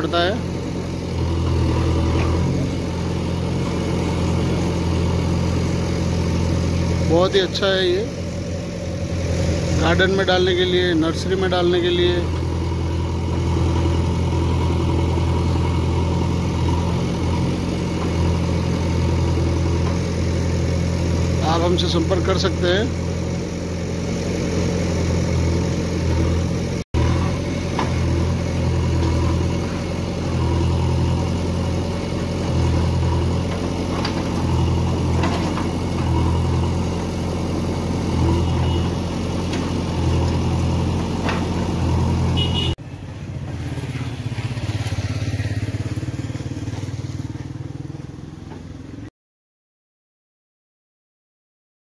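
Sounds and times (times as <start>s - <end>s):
diesel engines running: 0.0s - 49.1s
quieter engine sound: 0.0s - 49.1s.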